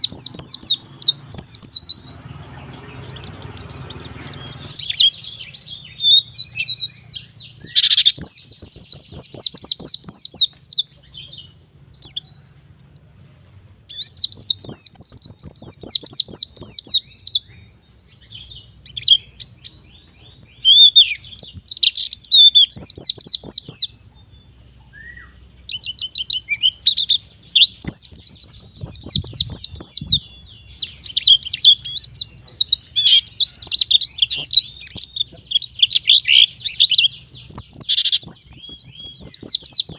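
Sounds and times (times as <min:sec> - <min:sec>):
bird twittering and chattering: 0:00.0 - 0:39.9.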